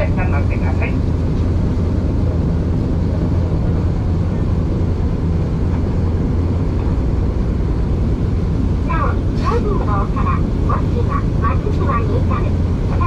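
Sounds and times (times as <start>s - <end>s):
boat engine droning: 0.0s - 13.0s
churning wake rushing: 0.0s - 13.0s.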